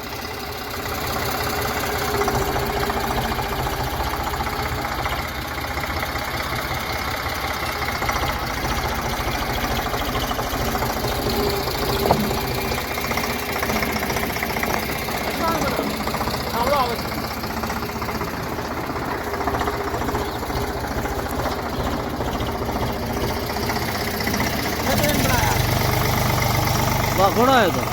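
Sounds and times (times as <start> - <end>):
tractor diesel engine knocking: 0.0 - 27.9.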